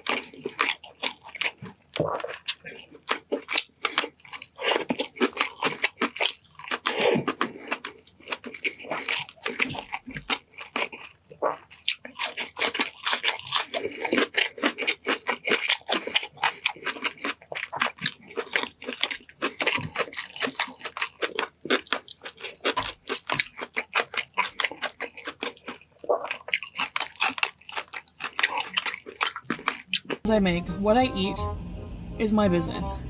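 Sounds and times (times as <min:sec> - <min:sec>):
person crunching and chewing: 0:00.0 - 0:30.3.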